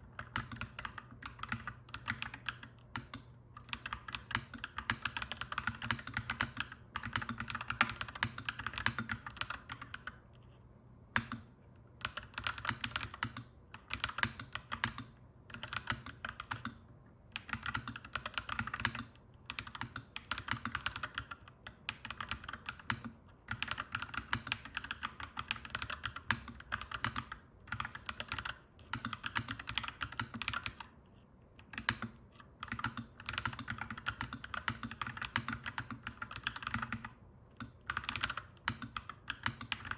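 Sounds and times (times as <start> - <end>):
mechanical keyboard typing: 0.2 - 10.2, 11.2 - 16.8, 17.4 - 31.0, 31.6 - 39.9.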